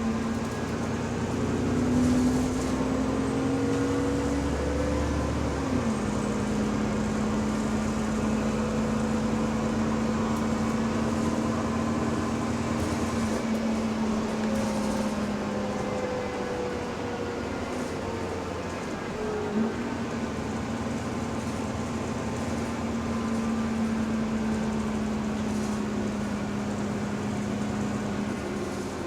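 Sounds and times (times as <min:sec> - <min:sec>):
bus drivetrain whine: 0:00.0 - 0:29.0.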